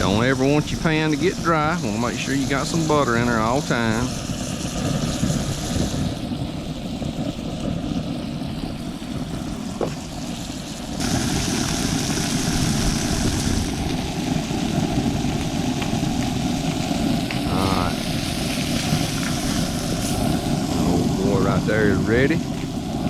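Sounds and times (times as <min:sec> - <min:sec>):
fish sizzling in a pan: 0:00.0 - 0:23.0.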